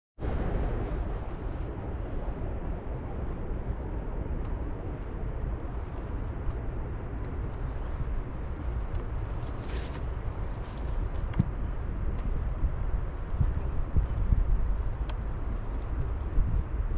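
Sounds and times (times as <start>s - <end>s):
wind buffeting microphone: 0.2s - 16.9s.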